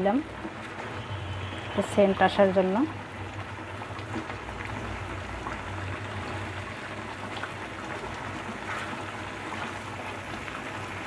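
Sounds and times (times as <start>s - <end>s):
gravy simmering and bubbling: 0.0s - 11.0s.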